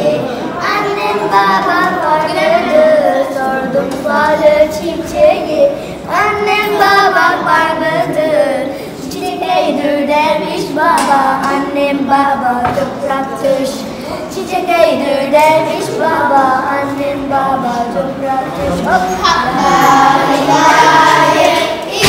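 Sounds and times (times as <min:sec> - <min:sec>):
child singing into microphone: 0:00.0 - 0:22.0.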